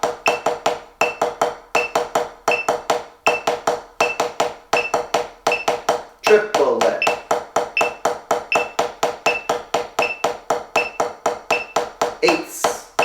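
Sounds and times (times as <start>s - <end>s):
drumsticks on rubber practice pad: 0.0s - 13.0s
metronome beeps: 0.2s - 5.8s, 6.9s - 11.9s.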